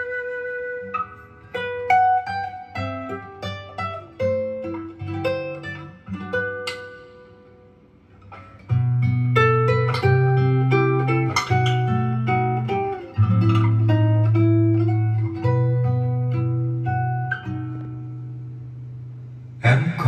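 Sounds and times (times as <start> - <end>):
plucked guitar notes: 0.0 - 20.0.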